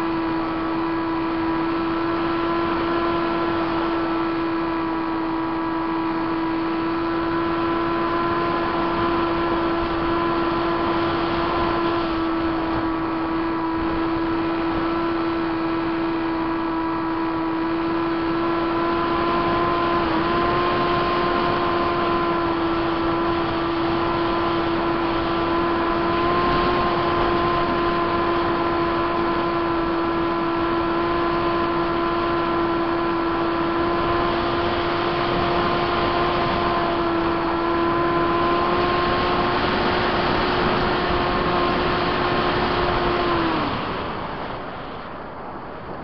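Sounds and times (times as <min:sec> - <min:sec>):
electric motor whine: 0:00.0 - 0:46.0.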